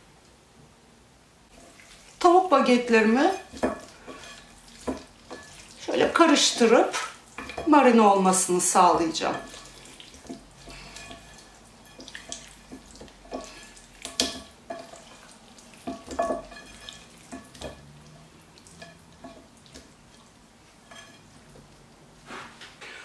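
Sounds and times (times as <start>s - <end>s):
wet squishes of mixing meat: 1.5s - 22.0s.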